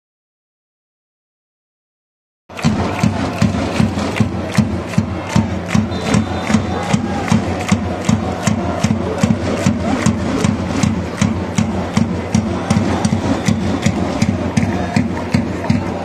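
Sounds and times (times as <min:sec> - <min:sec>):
crowd chanting: 0:02.5 - 0:16.0
drum beaten steadily: 0:02.5 - 0:16.0
sharp hand claps: 0:02.5 - 0:16.0.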